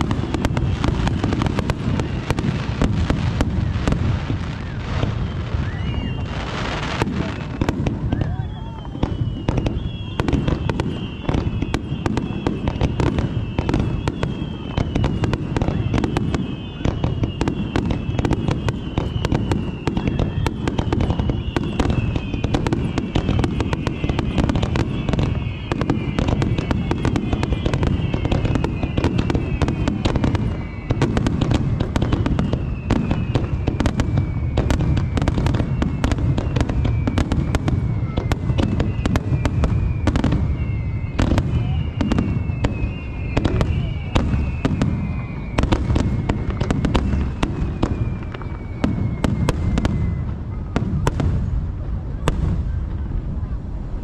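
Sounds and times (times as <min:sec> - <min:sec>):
falling firework whistles: 0:00.0 - 0:54.0
fireworks bursting and crackling: 0:00.0 - 0:54.0.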